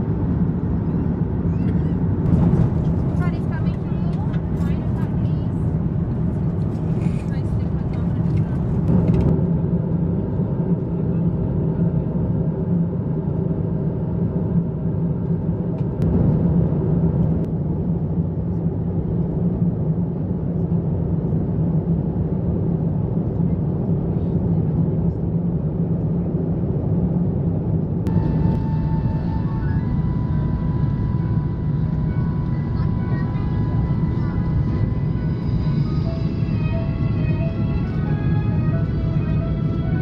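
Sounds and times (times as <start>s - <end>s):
airliner cabin rumble: 0.0s - 40.0s.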